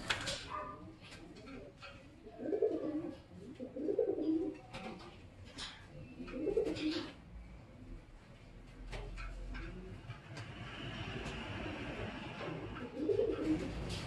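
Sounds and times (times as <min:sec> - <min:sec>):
pigeons cooing: 0:00.0 - 0:08.0, 0:08.9 - 0:14.0.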